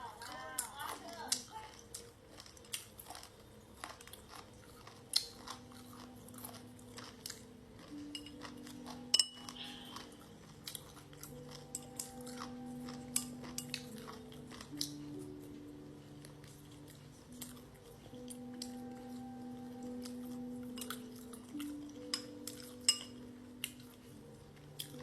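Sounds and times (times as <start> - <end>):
crunchy chewing: 0.0 - 25.0.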